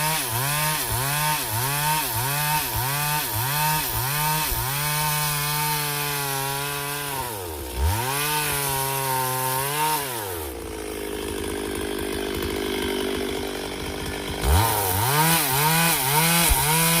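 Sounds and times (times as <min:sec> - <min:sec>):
chainsaw running at high revs: 0:00.0 - 0:17.0.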